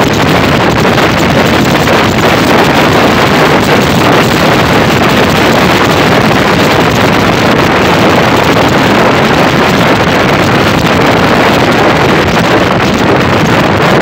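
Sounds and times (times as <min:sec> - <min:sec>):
motorcycle running: 0:00.0 - 0:14.0
road noise: 0:00.0 - 0:14.0
wind buffeting microphone: 0:00.0 - 0:14.0.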